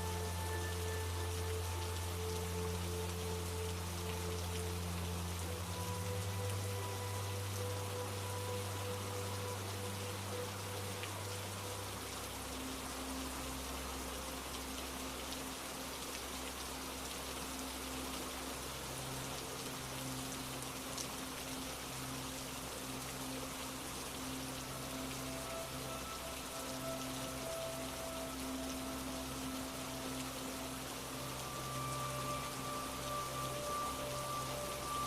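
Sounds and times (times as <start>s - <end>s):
low drone tones: 0.0s - 35.0s
steady rain falling: 0.0s - 35.0s.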